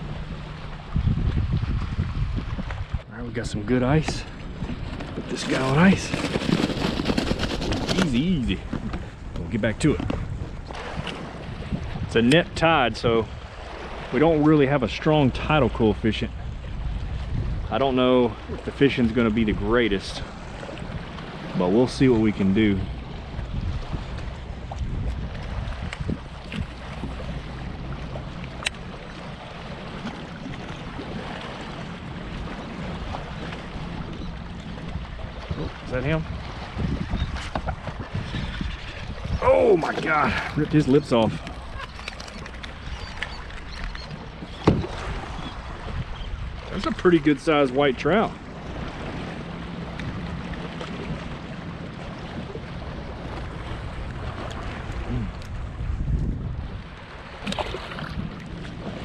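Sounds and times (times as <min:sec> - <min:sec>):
wind on microphone: 0:00.0 - 0:14.4, 0:15.1 - 0:59.0
water lapping: 0:00.0 - 0:59.0.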